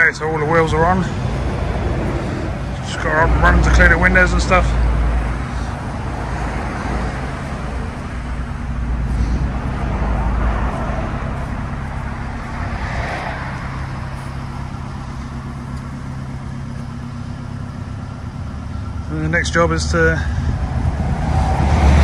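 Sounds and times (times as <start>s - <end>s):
car engine idling: 0.0s - 22.0s
rushing noise: 0.6s - 16.6s, 20.2s - 22.0s.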